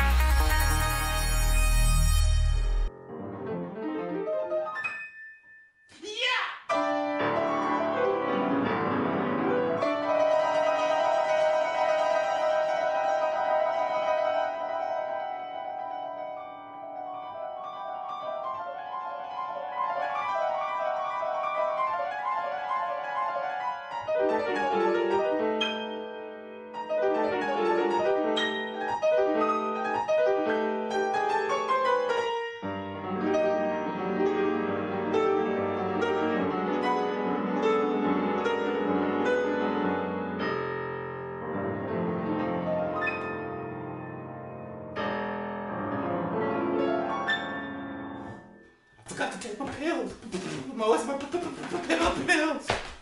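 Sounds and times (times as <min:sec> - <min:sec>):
solo grand piano: 0:02.8 - 0:05.1, 0:06.7 - 0:48.8.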